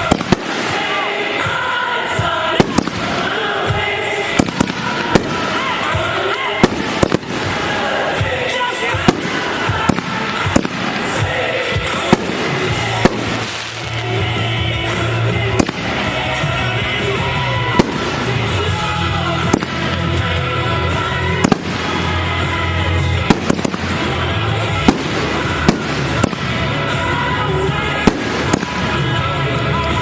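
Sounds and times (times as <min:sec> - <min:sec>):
fireworks bursting with bangs: 0:00.0 - 0:30.0
steady music: 0:00.0 - 0:30.0.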